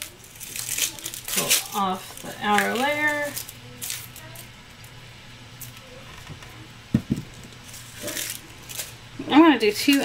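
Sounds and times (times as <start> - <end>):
onion skin rustling: 0.0 - 5.0, 5.6 - 10.0.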